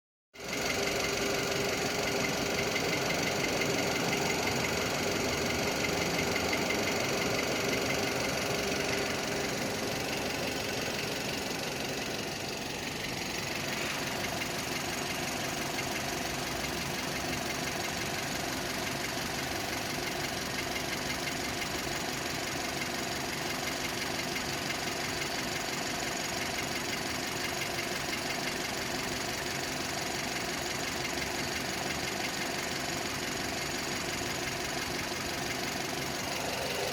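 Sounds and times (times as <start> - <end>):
car engine idling: 0.4 - 36.9
fast engine knocking: 0.4 - 36.9.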